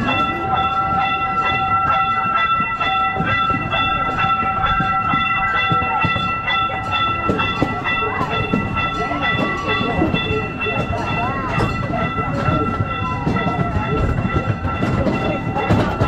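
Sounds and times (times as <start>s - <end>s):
train rumble: 0.0s - 16.0s
wheels clicking on track: 0.0s - 16.0s.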